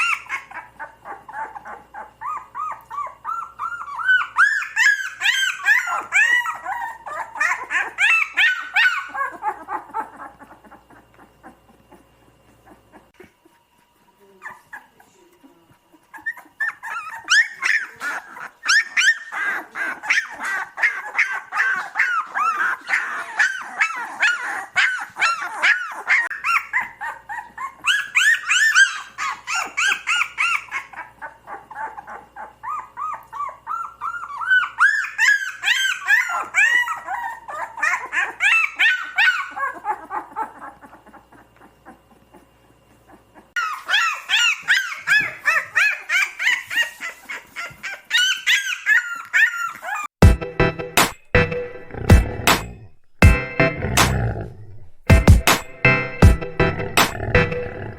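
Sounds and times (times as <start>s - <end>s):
puppies whimpering and yelping: 0.0s - 50.2s.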